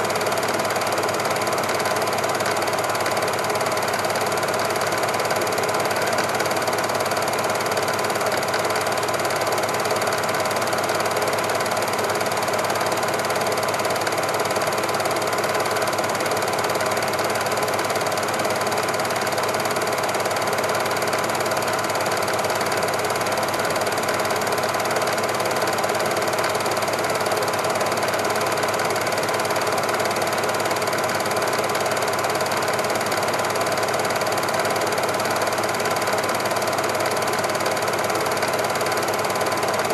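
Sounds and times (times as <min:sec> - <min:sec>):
film projector clatter and whirr: 0:00.0 - 0:39.9.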